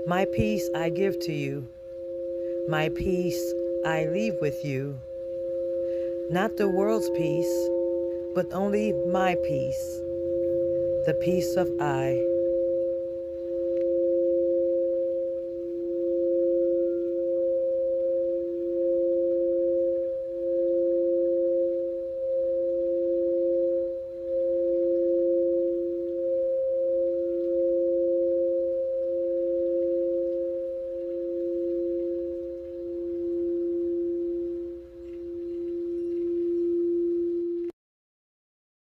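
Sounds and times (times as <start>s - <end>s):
singing bowl ringing: 0.0s - 37.7s
sustained pure tone: 0.0s - 37.7s.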